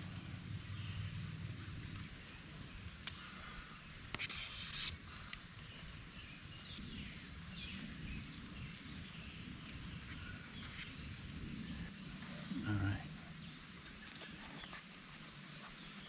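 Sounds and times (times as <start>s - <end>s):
low outdoor background noise: 0.0s - 16.0s.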